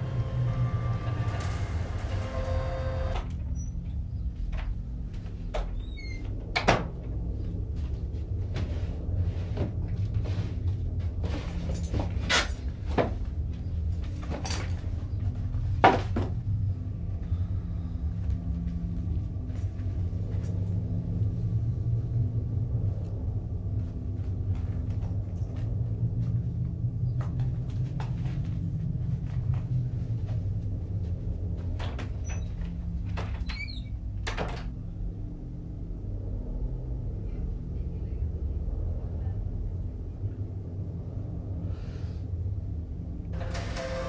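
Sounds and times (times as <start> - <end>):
low rumble: 0.0 - 44.0.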